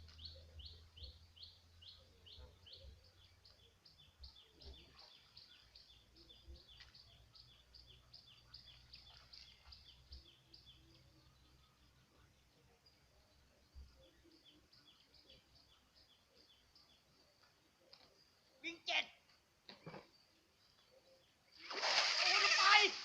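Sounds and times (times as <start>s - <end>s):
faint bird chirping: 0.0s - 22.9s.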